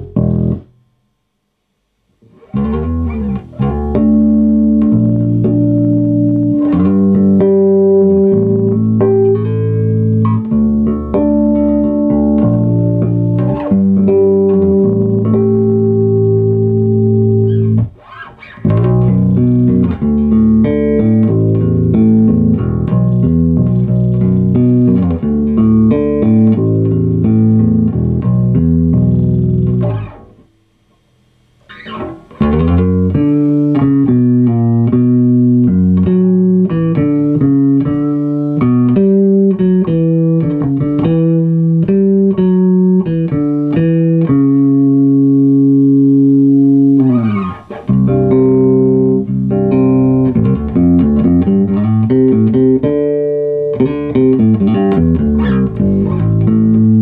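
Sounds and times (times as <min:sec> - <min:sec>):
plucked electric bass notes: 0:00.0 - 0:00.8, 0:02.2 - 0:57.0.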